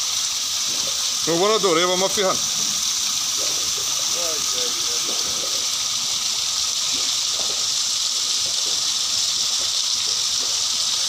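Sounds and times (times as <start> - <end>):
water gushing from pipe: 0.0 - 11.0
water splashing into pool: 0.0 - 11.0.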